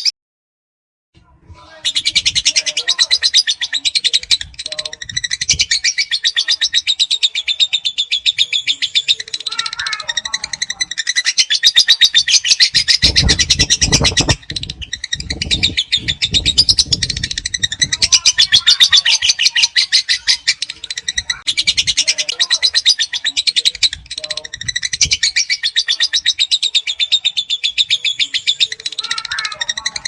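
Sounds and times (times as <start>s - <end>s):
lovebird shrill chattering: 1.9s - 30.0s.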